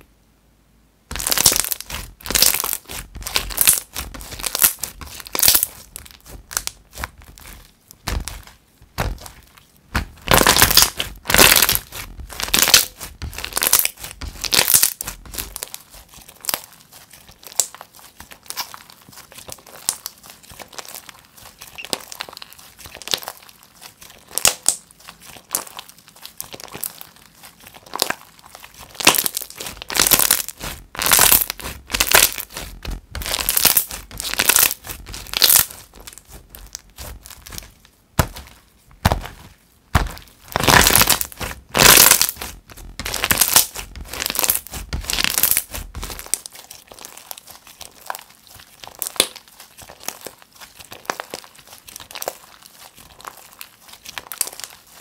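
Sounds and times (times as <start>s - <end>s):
slime crackles and sticky pops: 1.1s - 55.0s.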